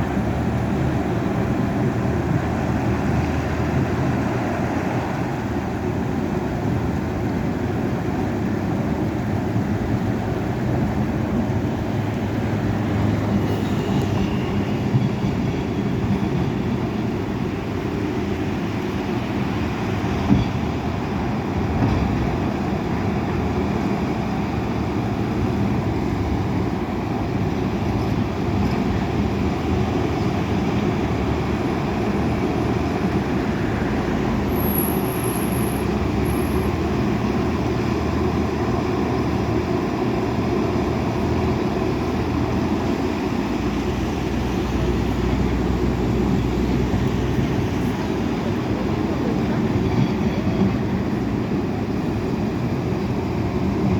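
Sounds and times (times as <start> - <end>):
heavy machine diesel engines running: 0.0 - 53.9.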